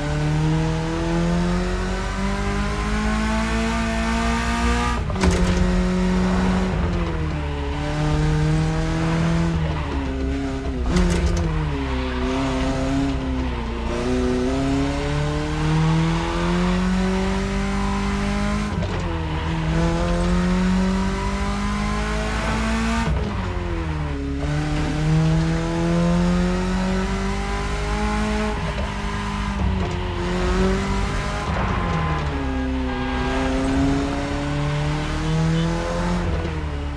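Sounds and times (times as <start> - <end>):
car engine accelerating: 0.0 - 36.9.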